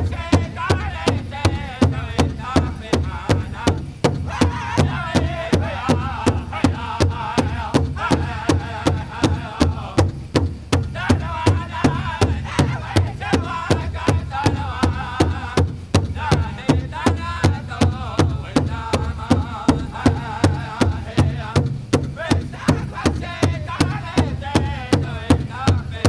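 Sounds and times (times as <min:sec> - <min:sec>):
big drum fast beat: 0:00.0 - 0:26.0
voices singing together: 0:00.0 - 0:26.0.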